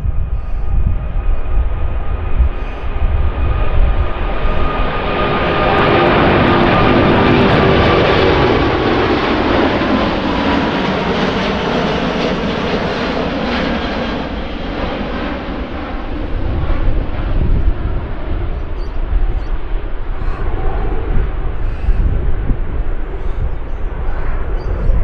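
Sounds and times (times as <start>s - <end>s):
jet engines roaring: 0.0s - 25.0s
wind buffeting microphone: 0.0s - 25.0s.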